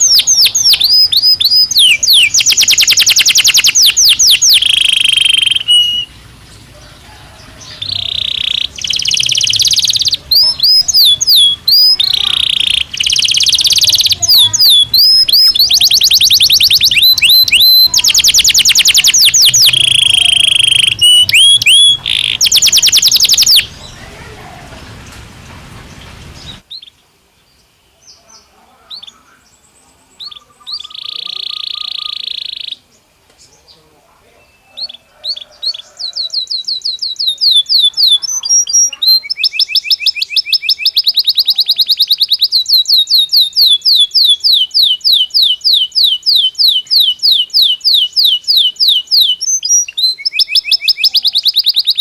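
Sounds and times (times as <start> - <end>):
canary singing trills: 0.0 - 25.1, 27.9 - 52.0.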